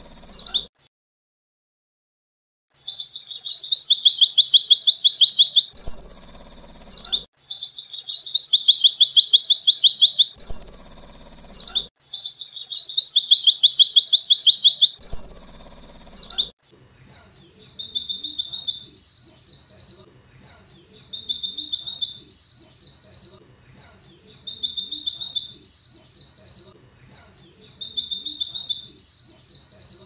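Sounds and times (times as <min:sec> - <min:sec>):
bird singing trills: 0:00.0 - 0:00.7, 0:02.8 - 0:16.5, 0:17.4 - 0:23.0, 0:23.6 - 0:29.8
faint bird song phrase: 0:00.0 - 0:00.7, 0:02.8 - 0:30.0.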